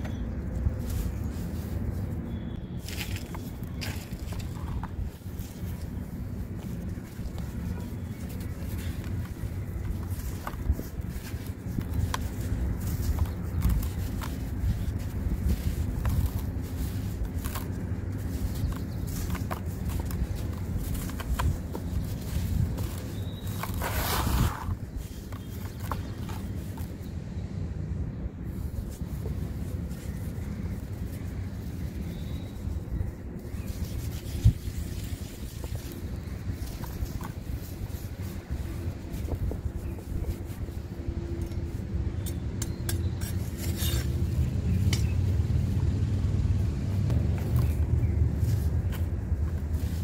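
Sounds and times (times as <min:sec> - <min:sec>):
dry sand crumbling: 0:00.0 - 0:27.2, 0:28.4 - 0:46.2.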